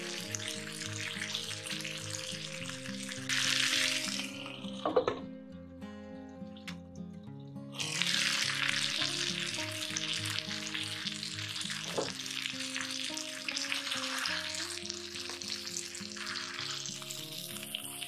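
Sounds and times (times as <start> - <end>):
chicken sizzling in hot oil: 0.0 - 4.9, 7.7 - 18.0
soft background music: 0.0 - 18.0.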